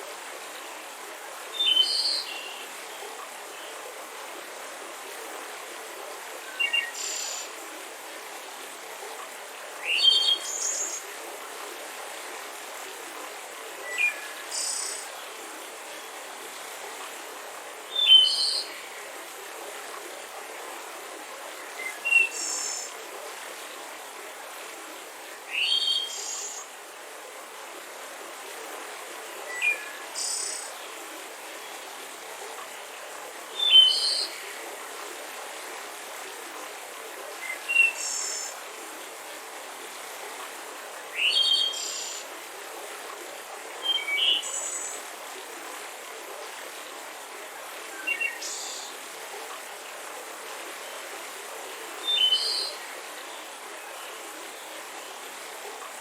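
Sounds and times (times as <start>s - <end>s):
mountain river rushing: 0.0s - 56.0s.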